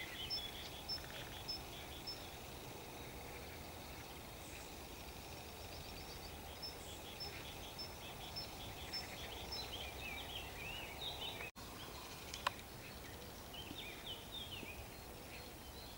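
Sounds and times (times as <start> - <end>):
songbirds chirping and warbling: 0.0 - 15.9.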